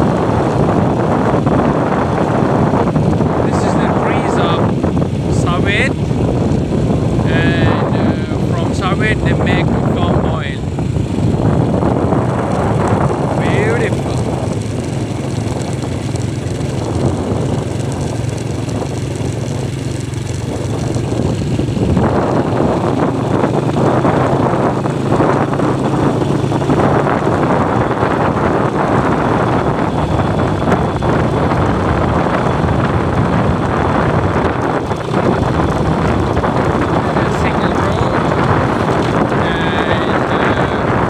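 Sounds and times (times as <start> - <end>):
road and wind noise: 0.0 - 41.0
vehicle engine humming: 0.0 - 41.0.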